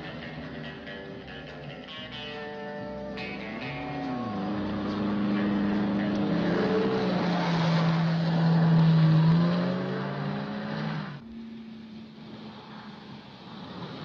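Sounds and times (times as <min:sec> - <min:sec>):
car engines running hard: 0:00.0 - 0:14.0
steady engine hum: 0:00.0 - 0:14.0.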